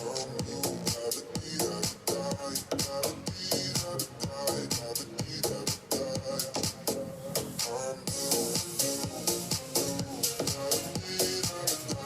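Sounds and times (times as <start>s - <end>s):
electronic music with fast beat: 0.0s - 12.0s.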